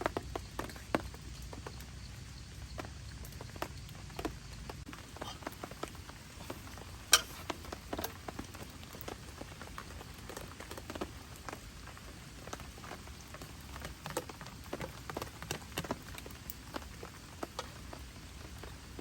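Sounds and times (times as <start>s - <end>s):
large raindrops tapping: 0.0s - 19.0s
rain falling: 0.0s - 19.0s.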